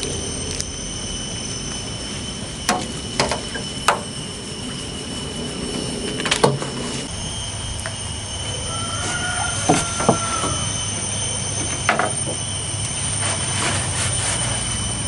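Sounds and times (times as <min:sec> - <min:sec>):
background drone: 0:00.0 - 0:15.0
high-pitched whine: 0:00.0 - 0:15.0.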